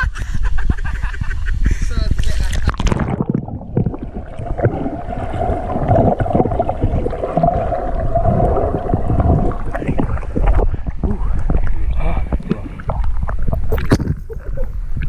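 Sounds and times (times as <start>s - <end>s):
water rumbling past camera: 2.2s - 14.9s.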